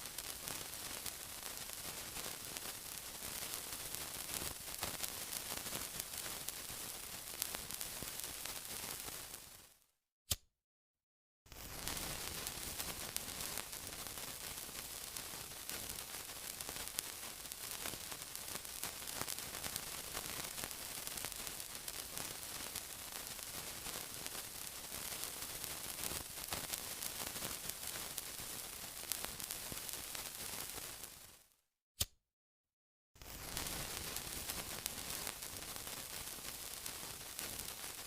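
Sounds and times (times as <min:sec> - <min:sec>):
sizzling with fine crackles: 0:00.0 - 0:09.8, 0:11.5 - 0:31.6, 0:33.2 - 0:38.0.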